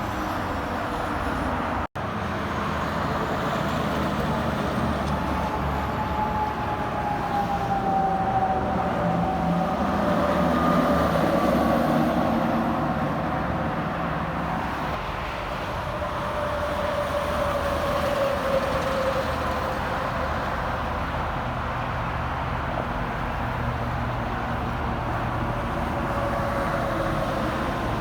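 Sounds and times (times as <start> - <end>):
highway traffic rushing: 0.0 - 28.0.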